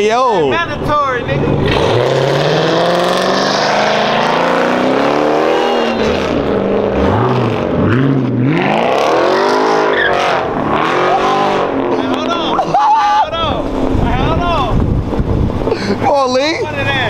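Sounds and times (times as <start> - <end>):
car engine revving: 0.5 - 16.0.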